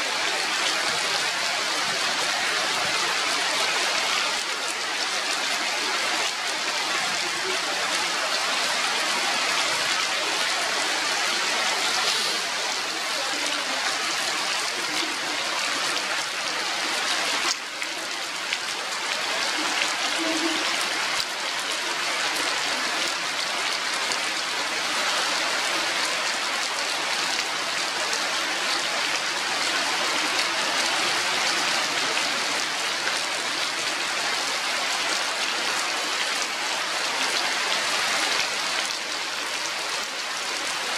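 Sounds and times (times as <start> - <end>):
rain falling on foliage: 0.0 - 40.9.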